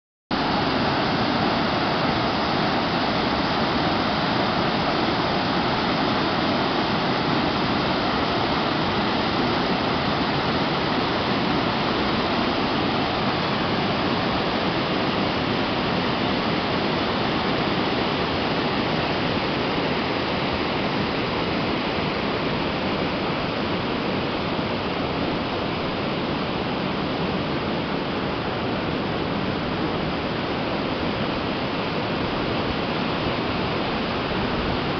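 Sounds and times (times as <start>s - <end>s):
waterfall cascading over rocks: 0.4s - 34.9s.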